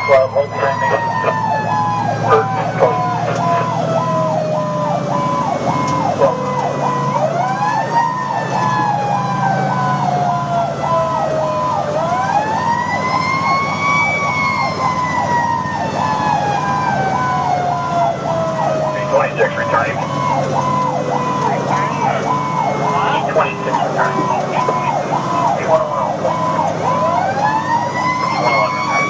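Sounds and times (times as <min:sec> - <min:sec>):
electronic siren cycling fast: 0:00.0 - 0:29.0
truck engine humming: 0:00.0 - 0:29.0.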